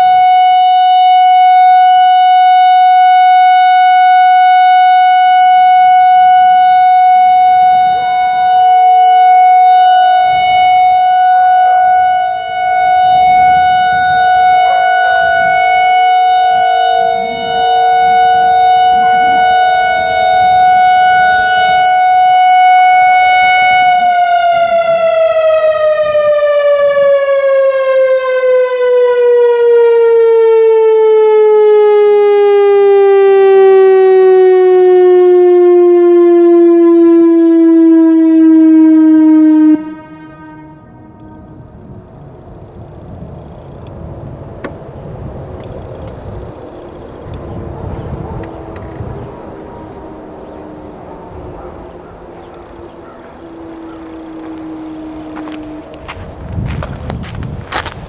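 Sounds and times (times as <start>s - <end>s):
outdoor warning siren: 0.0s - 58.0s.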